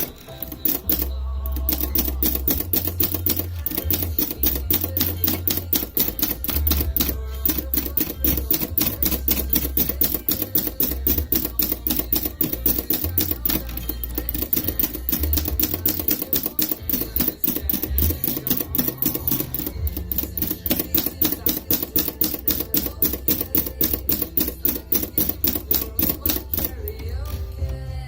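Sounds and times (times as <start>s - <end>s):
typewriter keys clicking: 0.0s - 27.0s
background music with bass: 0.0s - 28.0s.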